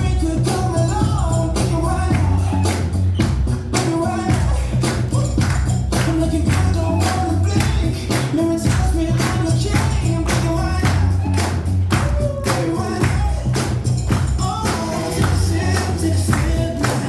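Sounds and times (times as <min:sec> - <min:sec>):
upbeat music with bass and shaker: 0:00.0 - 0:17.0.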